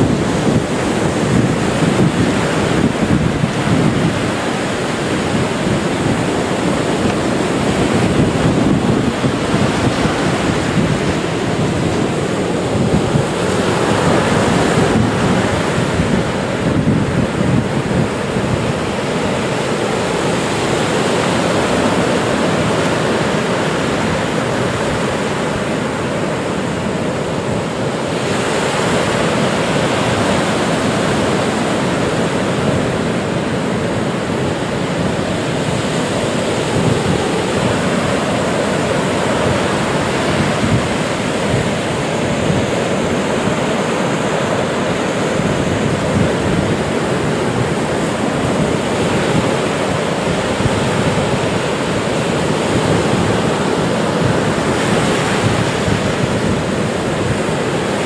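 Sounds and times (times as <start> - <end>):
waves breaking: 0.0 - 58.0.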